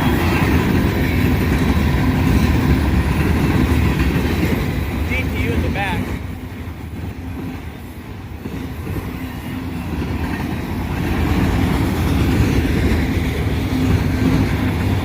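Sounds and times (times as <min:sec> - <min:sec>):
locomotive rumbling: 0:00.0 - 0:15.0
wheels clacking over rail joints: 0:00.0 - 0:15.0.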